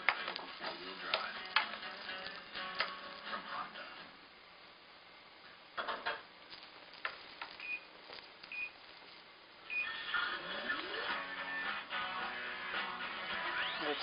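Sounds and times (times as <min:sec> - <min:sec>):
television music: 0:00.0 - 0:08.7, 0:09.6 - 0:14.0.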